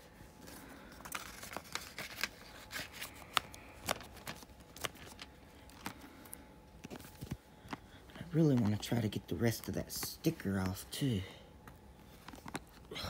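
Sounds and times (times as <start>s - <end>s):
paper rustling: 0.3s - 10.9s.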